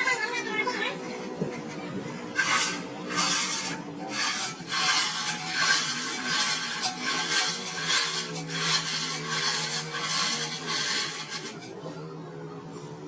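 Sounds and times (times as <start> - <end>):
file rasping on metal: 0.0 - 11.8.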